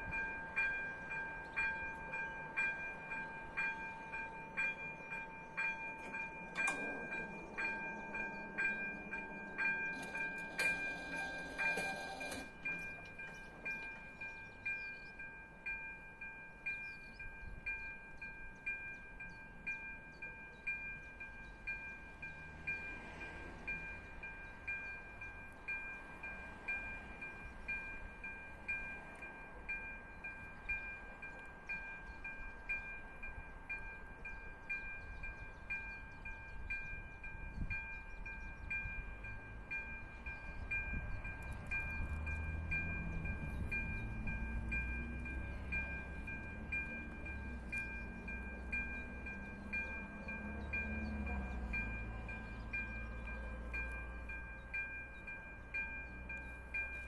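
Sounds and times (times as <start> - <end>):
level crossing warning bell ringing: 0.0 - 57.0.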